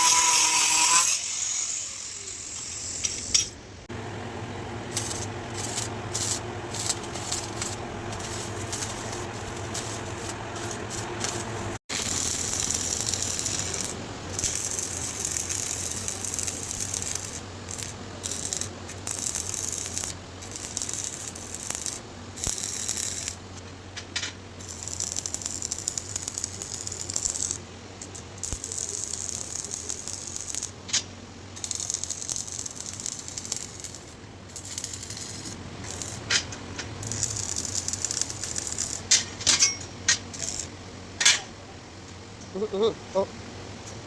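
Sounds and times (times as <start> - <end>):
arc welding crackling: 0.0 - 3.7, 4.8 - 44.0.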